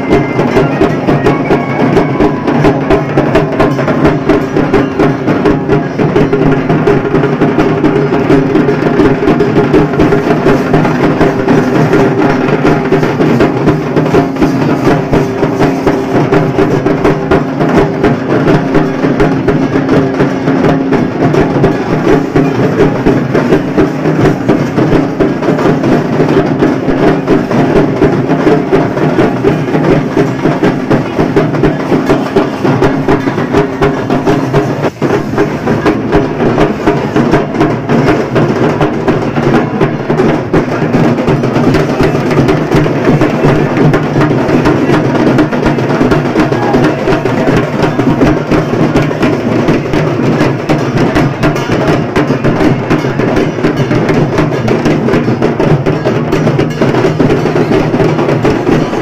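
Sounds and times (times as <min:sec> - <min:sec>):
loud fast drumming: 0:00.0 - 0:59.0.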